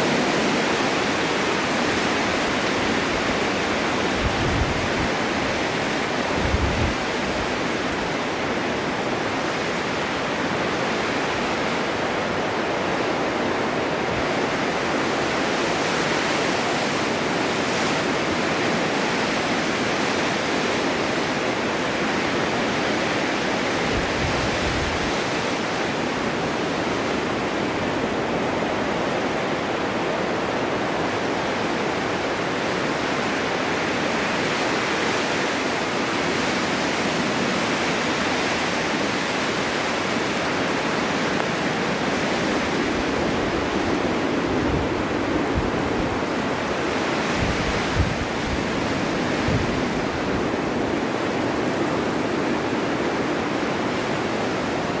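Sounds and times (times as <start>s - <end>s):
snowstorm wind rushing hiss: 0.0s - 55.0s.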